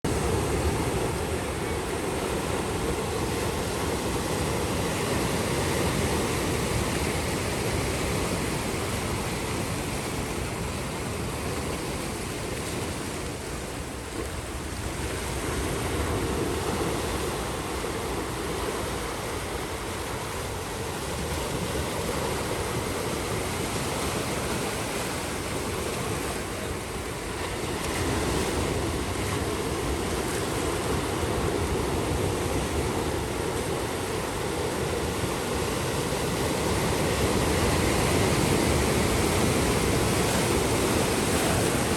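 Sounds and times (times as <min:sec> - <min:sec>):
ocean waves breaking on beach: 0:00.1 - 0:41.9.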